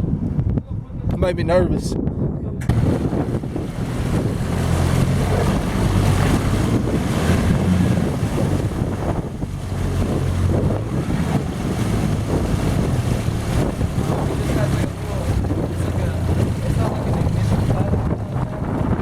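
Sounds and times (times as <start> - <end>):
wind buffeting microphone: 0.0 - 19.0
engine humming: 2.6 - 19.0.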